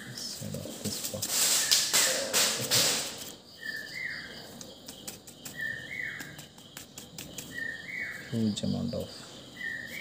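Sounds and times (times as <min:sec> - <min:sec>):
bird calling: 0:00.0 - 0:10.0.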